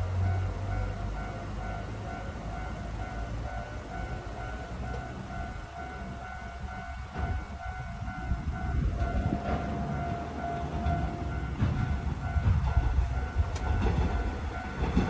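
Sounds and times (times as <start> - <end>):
approaching train rumble: 0.0 - 15.0
railroad crossing alarm: 0.0 - 15.0.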